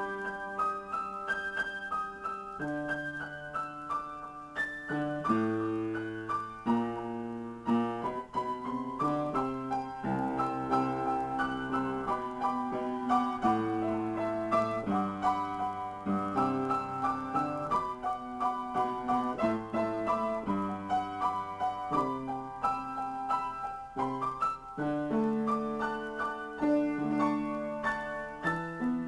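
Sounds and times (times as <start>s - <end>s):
solo piano improvisation: 0.0s - 29.0s.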